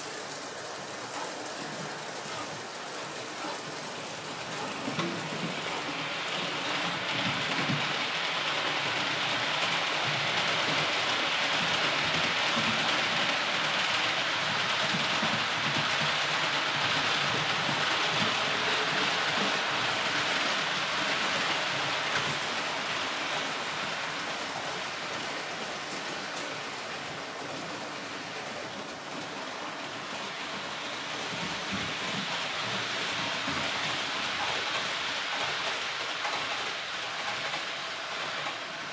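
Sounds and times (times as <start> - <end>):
model train wheels rolling on rails: 0.0 - 38.9.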